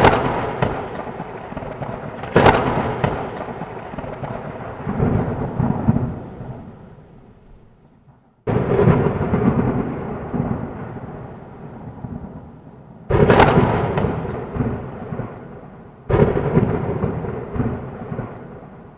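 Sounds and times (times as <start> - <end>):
thunder cracks and rumble: 0.0 - 18.9.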